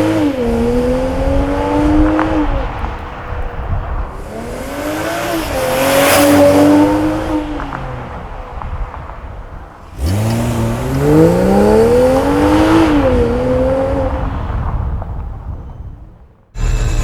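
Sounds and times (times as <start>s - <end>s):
car engine accelerating hard: 0.0s - 15.1s.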